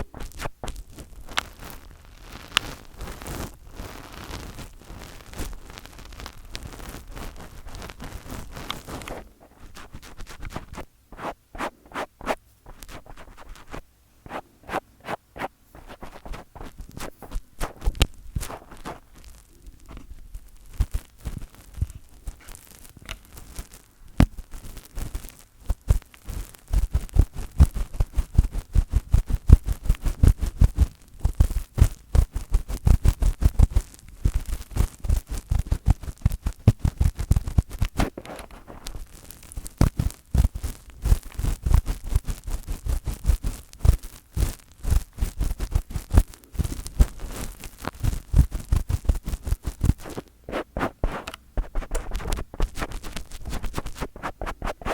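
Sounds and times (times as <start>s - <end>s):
fingers scratching on microphone: 0.0s - 54.9s.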